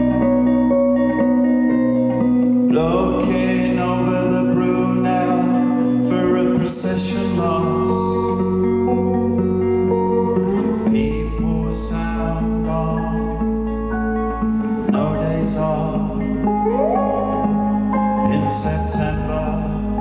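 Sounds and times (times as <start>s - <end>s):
acoustic guitar playing: 0.0s - 20.0s.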